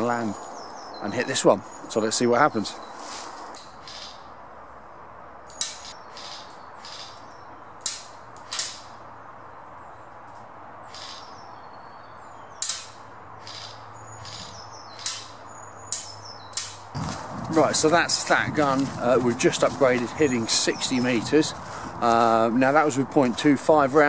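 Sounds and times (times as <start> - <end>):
small birds chirping: 0.0 - 4.5, 5.4 - 24.0.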